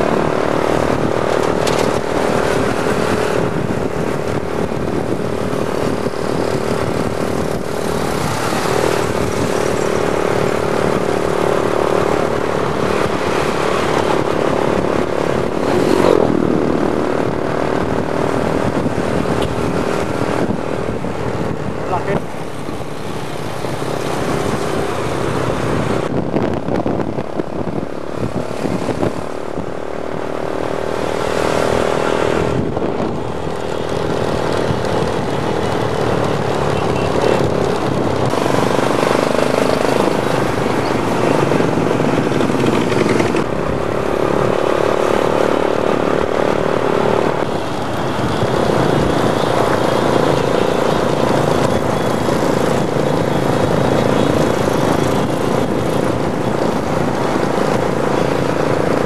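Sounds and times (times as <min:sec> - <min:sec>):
motorcycle engines droning: 0:00.0 - 0:59.0.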